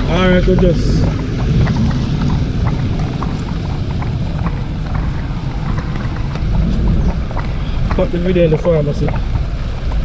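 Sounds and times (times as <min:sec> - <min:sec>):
raindrops tapping: 0:00.0 - 0:10.0
wind buffeting microphone: 0:00.0 - 0:10.0.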